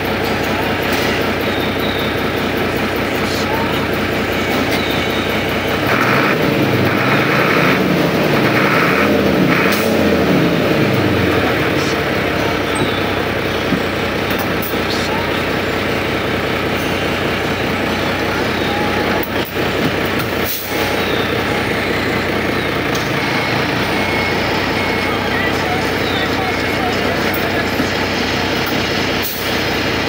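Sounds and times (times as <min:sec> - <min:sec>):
diesel truck engine revving: 0:00.0 - 0:30.0.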